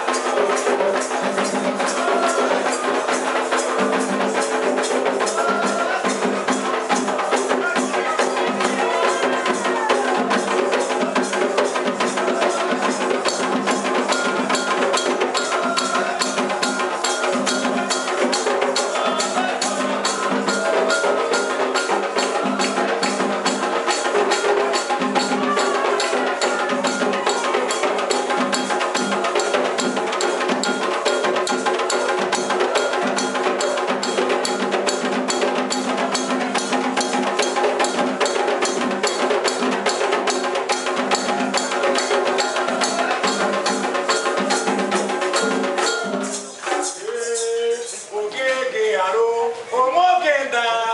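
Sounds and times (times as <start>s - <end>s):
hand drums: 0.0s - 48.7s
sharp clacking percussion: 0.0s - 48.8s
voices singing: 0.0s - 50.9s.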